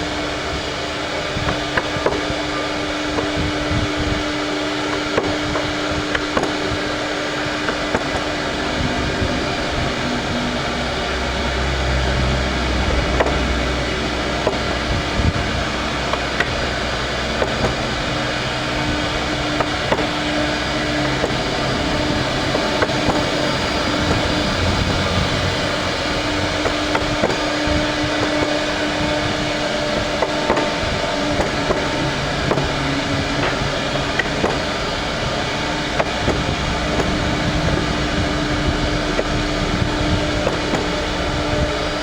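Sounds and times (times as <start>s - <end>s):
machine hum: 0.0s - 42.0s
deep rumble: 2.4s - 42.0s.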